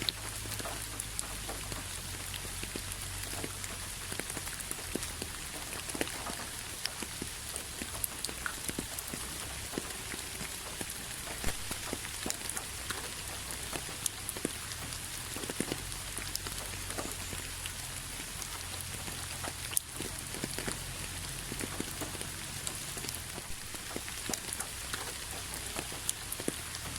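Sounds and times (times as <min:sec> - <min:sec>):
rain hissing: 0:00.0 - 0:26.9
raindrops ticking: 0:00.0 - 0:26.9.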